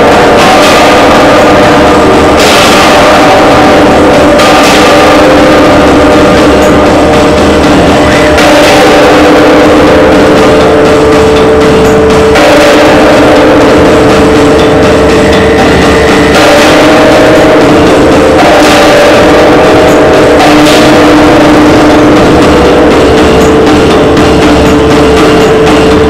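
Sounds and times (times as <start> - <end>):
dense wall of electronic noise: 0.0 - 26.0
droning synthesizer tones: 0.0 - 26.0.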